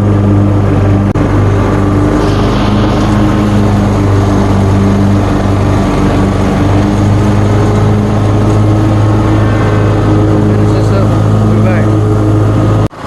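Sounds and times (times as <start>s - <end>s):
lawn mower engine mowing grass: 0.0s - 13.0s.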